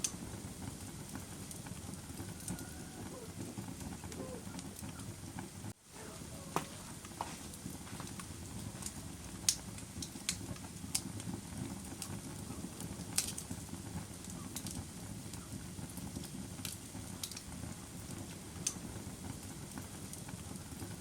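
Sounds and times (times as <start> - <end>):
bonfire flames rumbling: 0.0 - 21.0
fire crackles and pops: 0.0 - 21.0.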